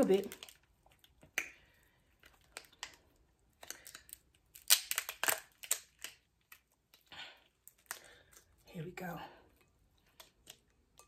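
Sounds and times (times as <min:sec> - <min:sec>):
lobster shell cracking: 0:00.1 - 0:08.6, 0:10.0 - 0:11.0.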